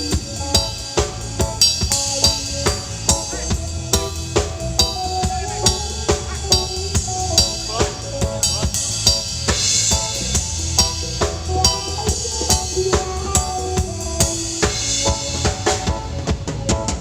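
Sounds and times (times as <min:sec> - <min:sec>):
cymbal wash: 0:00.0 - 0:16.0
bass line: 0:00.0 - 0:17.0
drum kit beat: 0:00.0 - 0:17.0
reggae music: 0:00.0 - 0:17.0.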